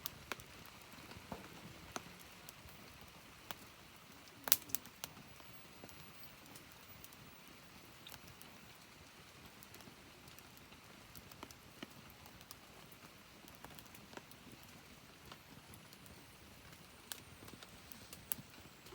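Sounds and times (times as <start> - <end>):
campfire hissing: 0.0 - 18.9
fire crackles and pops: 0.0 - 18.9.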